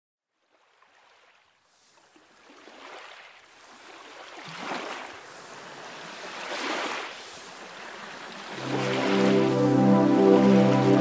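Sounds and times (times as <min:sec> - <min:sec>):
small waves breaking on sand: 0:00.4 - 0:11.0.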